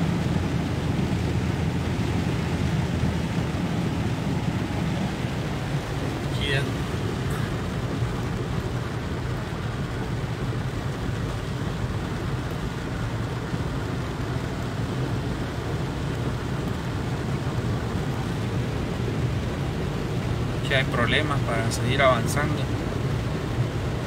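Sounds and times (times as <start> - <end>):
car engine and tyres in water: 0.0 - 24.0
rain on car: 0.0 - 24.0.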